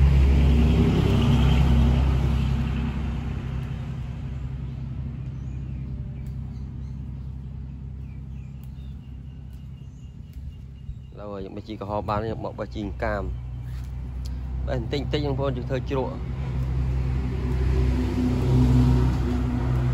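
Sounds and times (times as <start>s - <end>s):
vehicle engine rumble: 0.0s - 19.9s.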